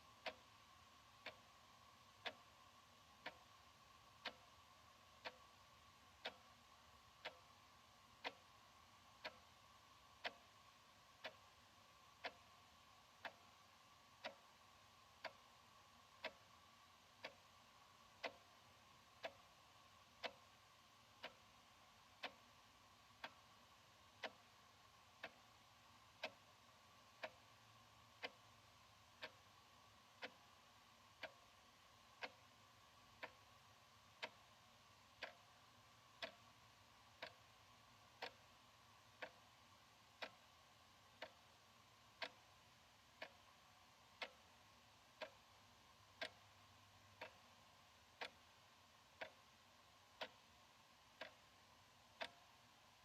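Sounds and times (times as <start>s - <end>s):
wall clock ticking: 0.0s - 53.0s.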